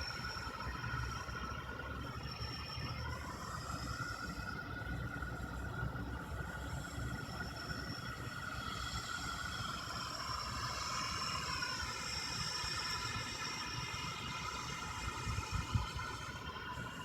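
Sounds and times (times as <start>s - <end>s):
steady high droning tones: 0.0s - 17.0s.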